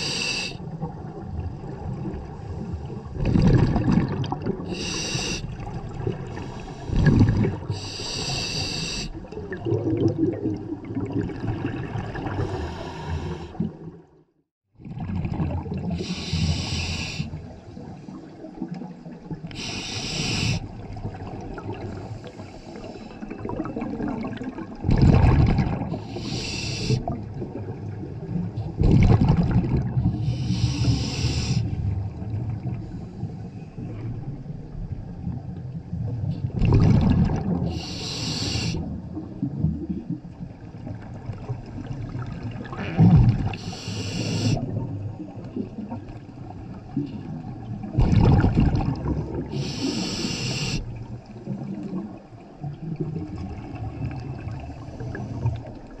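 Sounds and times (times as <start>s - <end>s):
exhaled bubbles underwater: 0.0s - 14.2s, 14.8s - 56.0s.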